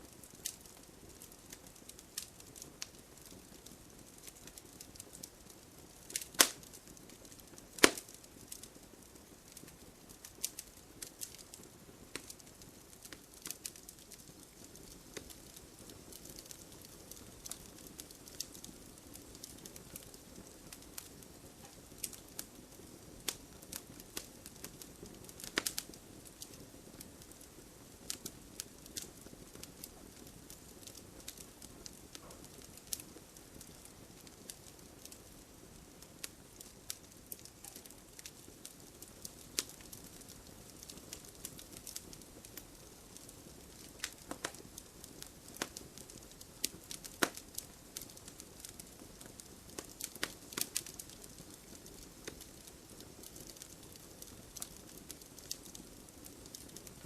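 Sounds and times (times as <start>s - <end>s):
hiss of flames: 0.0s - 57.0s
fire pops and snaps: 0.1s - 57.0s.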